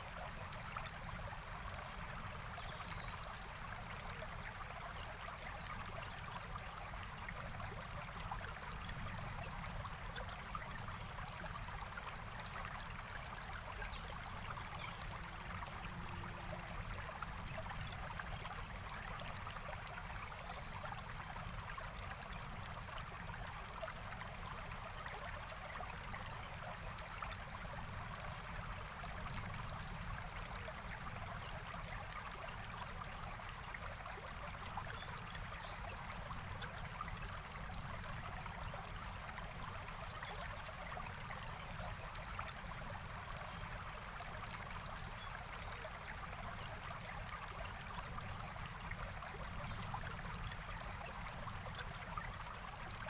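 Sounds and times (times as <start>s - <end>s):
forest stream flowing: 0.0s - 53.0s.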